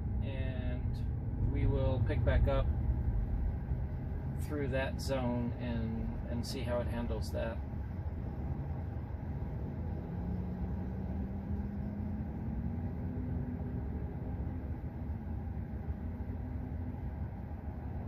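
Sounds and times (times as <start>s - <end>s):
faint rising hum: 0.0s - 18.0s
road and tyre rumble: 0.0s - 18.0s.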